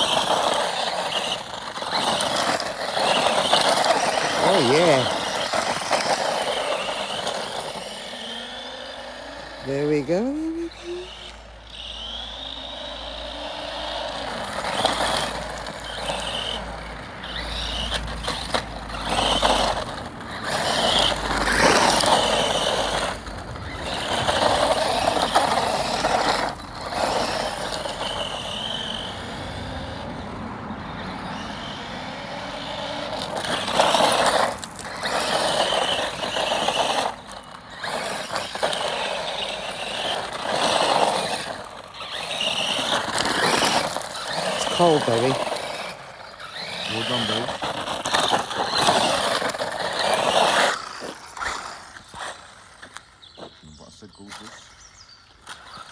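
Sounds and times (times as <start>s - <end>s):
radio-controlled cars motor whine: 0.0s - 55.9s.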